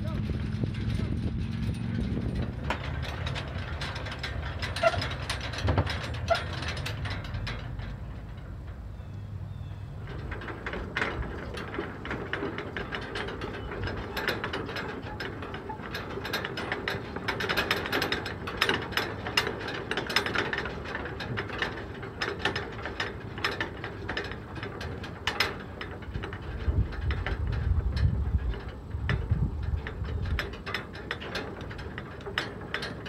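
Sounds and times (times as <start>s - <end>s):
wooden footbridge creaking: 0.0s - 33.0s.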